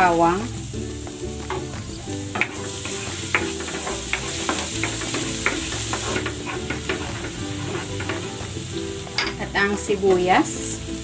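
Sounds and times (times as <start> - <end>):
garlic sizzling in oil: 0.0 - 11.0
spatula scraping and tapping pan: 1.0 - 10.2.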